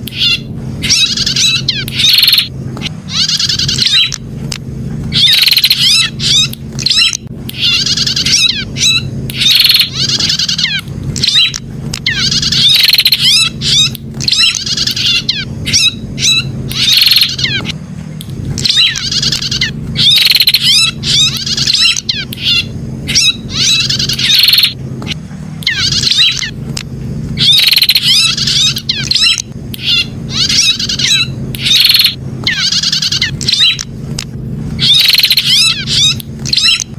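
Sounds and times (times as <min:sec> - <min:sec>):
bird trilled chirping: 0:00.0 - 0:04.2, 0:05.1 - 0:17.8, 0:18.6 - 0:24.8, 0:25.6 - 0:26.6, 0:27.4 - 0:33.9, 0:34.8 - 0:36.9
steady low hum: 0:00.0 - 0:36.9.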